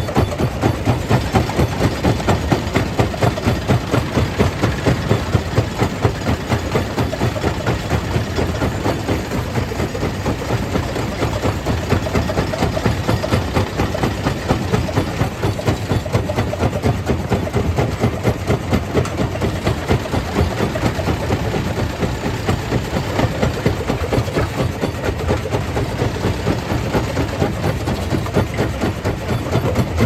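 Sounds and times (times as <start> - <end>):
stone crusher machine drone: 0.0 - 30.0.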